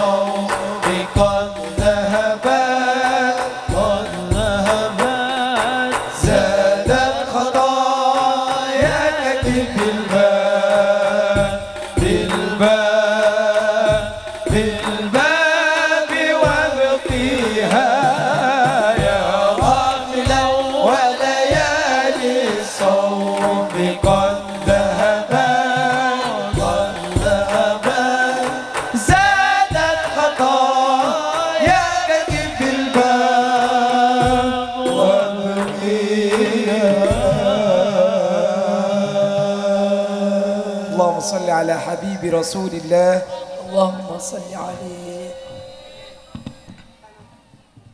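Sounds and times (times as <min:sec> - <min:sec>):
hand drums beating: 0:00.0 - 0:38.2, 0:41.7 - 0:47.9
man singing into a microphone: 0:00.0 - 0:47.0
other voices singing: 0:00.0 - 0:47.6.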